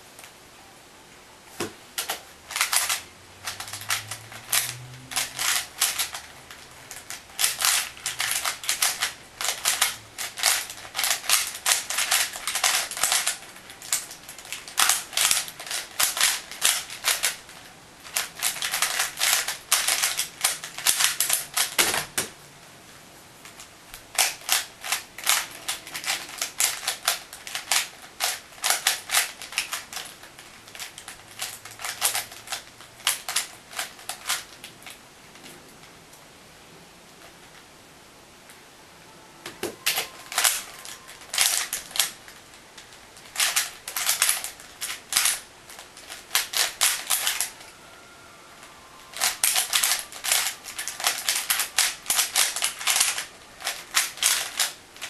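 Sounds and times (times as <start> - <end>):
plastic puzzle cube clicking: 2.0 - 22.3, 23.5 - 35.0, 39.5 - 47.7, 48.6 - 55.0.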